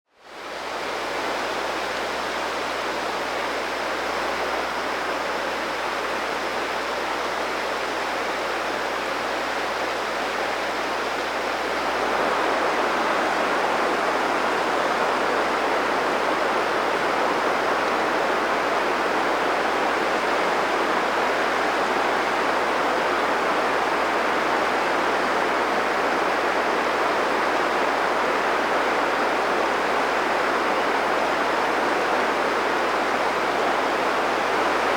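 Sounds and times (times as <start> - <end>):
rushing running water: 0.2 - 34.9.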